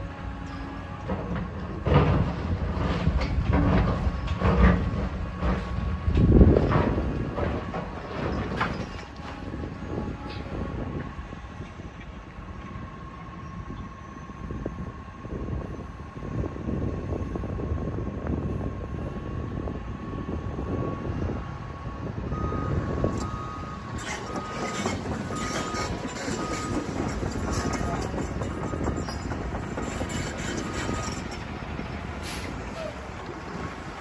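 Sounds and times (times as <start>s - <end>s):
demolition machinery rumble: 0.0s - 34.0s.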